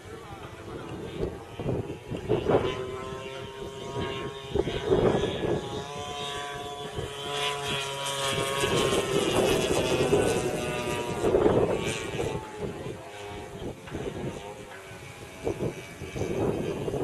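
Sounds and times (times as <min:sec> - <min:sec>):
model airplane engine drone: 0:00.0 - 0:17.0
wind buffeting microphone: 0:00.0 - 0:17.0.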